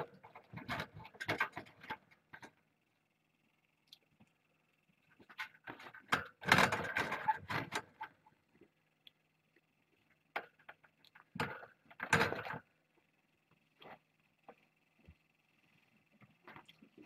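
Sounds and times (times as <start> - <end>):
faint electronic whine: 0.0 - 17.0.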